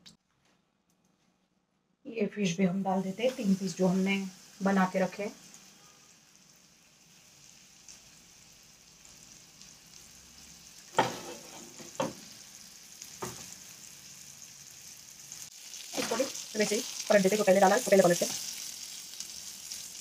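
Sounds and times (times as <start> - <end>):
sharp sizzle bursts: 2.7 - 20.0
hot oil sizzling in a pan: 2.8 - 20.0.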